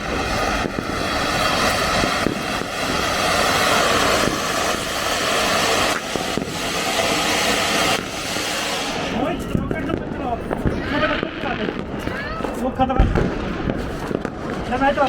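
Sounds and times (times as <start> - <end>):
firework spraying sparks hiss: 0.0 - 15.0.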